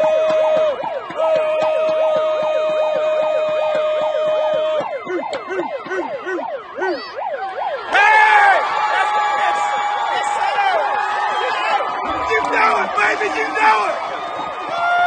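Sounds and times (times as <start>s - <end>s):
siren wailing sweeps: 0.0s - 15.0s
steady held siren tone: 0.0s - 15.0s.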